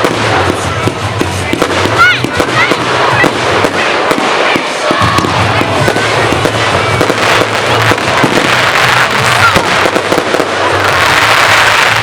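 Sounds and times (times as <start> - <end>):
fireworks crackling and popping: 0.0 - 12.0
fireworks whistling: 0.0 - 12.0.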